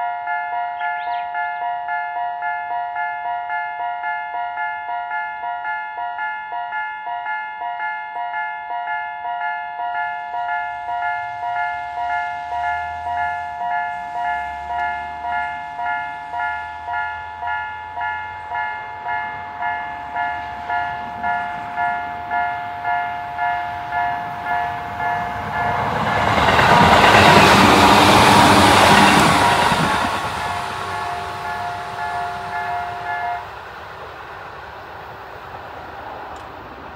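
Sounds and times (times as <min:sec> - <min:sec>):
level crossing warning bell dinging: 0:00.0 - 0:33.5
electric train passing: 0:00.3 - 0:36.9.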